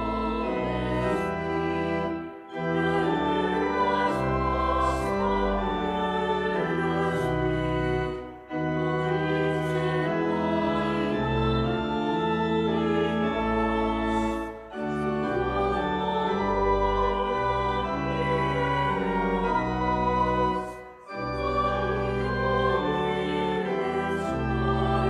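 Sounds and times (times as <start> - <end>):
church organ chords: 0.0 - 25.0
hymn singing: 0.0 - 25.0.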